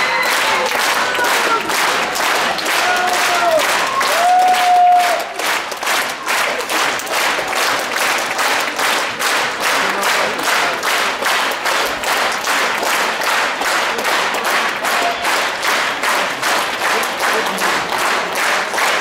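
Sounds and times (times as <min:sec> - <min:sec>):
audience clapping in rhythm: 0:00.0 - 0:19.0.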